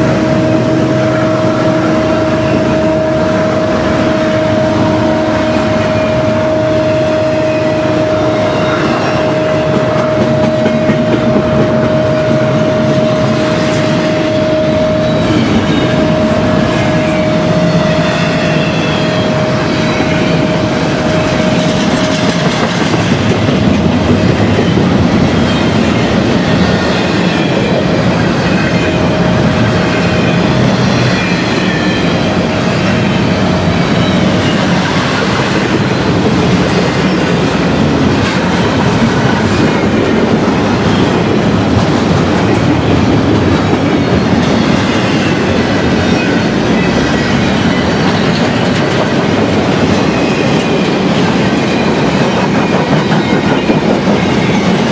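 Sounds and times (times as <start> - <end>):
train wheels rolling on rails: 0.0 - 54.9.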